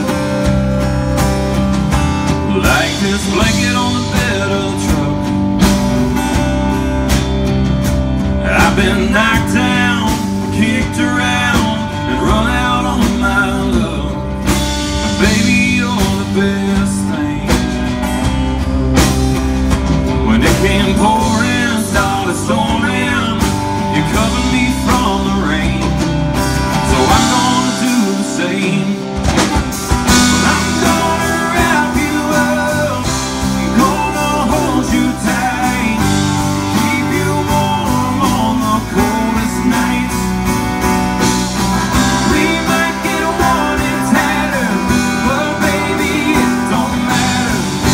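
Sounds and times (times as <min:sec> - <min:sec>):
man singing: 0:00.0 - 0:00.9, 0:02.2 - 0:05.9, 0:08.2 - 0:18.7, 0:20.0 - 0:47.9
drums: 0:00.0 - 0:47.9
electric bass: 0:00.0 - 0:47.9
strummed acoustic guitar: 0:00.0 - 0:47.9.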